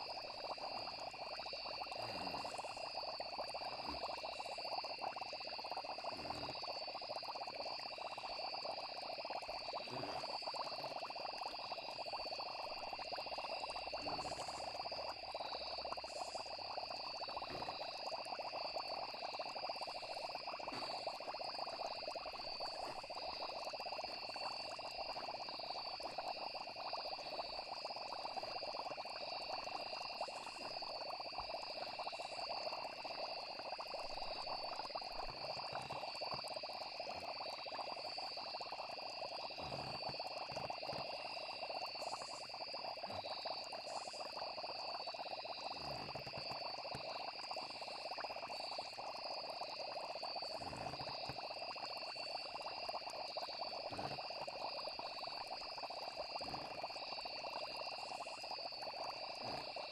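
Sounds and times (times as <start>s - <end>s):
frogs croaking: 0.0s - 59.9s
insects trilling: 0.0s - 59.9s.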